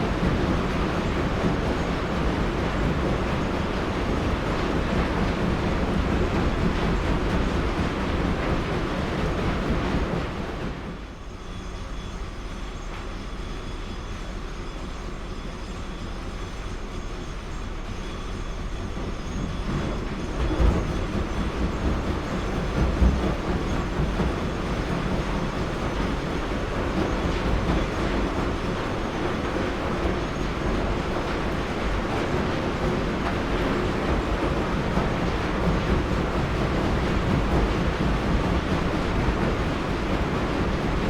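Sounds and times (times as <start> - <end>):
rumbling clattering machinery: 0.0 - 41.0.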